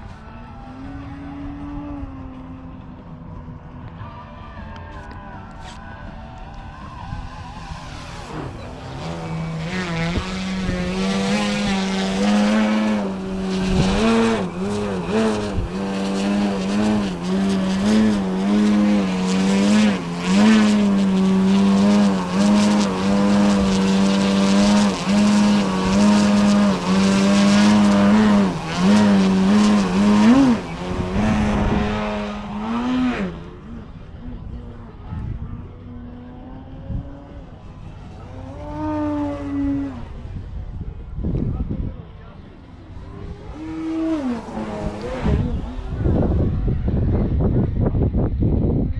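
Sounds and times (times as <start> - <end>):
model airplane propeller drone: 0.0 - 48.9.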